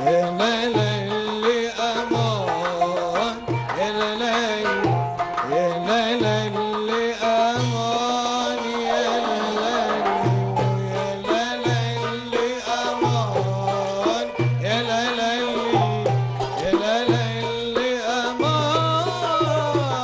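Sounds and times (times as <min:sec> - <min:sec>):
hand drum rhythm: 0:00.0 - 0:20.0
qanun and oud melody: 0:00.0 - 0:20.0.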